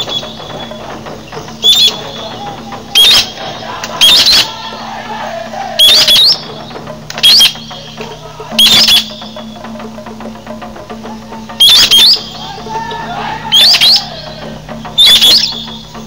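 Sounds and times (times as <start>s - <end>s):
bird whistled calls: 0.0s - 5.0s, 5.6s - 9.8s, 11.3s - 16.0s.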